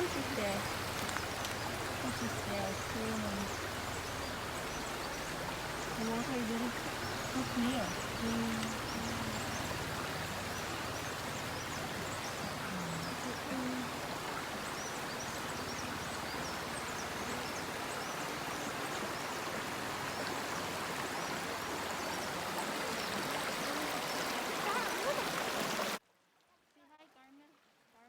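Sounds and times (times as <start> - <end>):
rocky stream flowing: 0.0 - 26.0.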